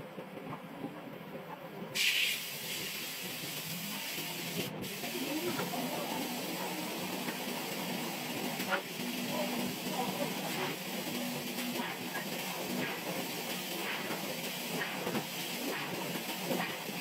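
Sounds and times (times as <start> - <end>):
steady hiss: 2.0 - 17.0.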